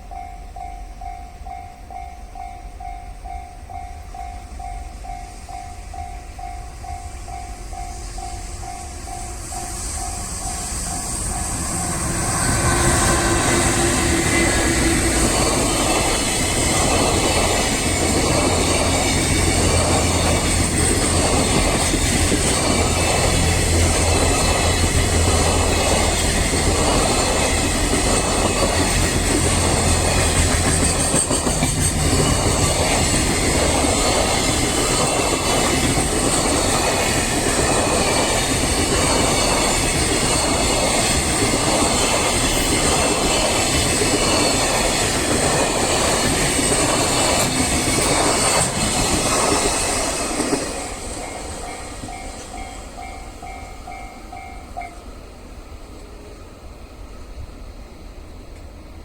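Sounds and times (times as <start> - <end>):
train wheels clattering on rails: 0.0 - 55.2
high metallic hiss from rails: 0.0 - 56.1.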